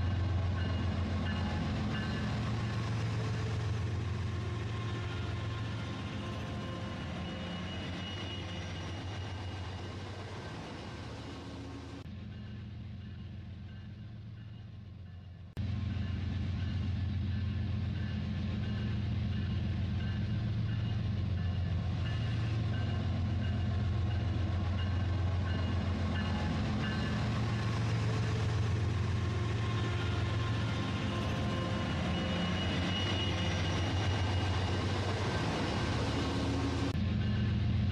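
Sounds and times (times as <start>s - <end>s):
train rumble: 0.0s - 37.9s.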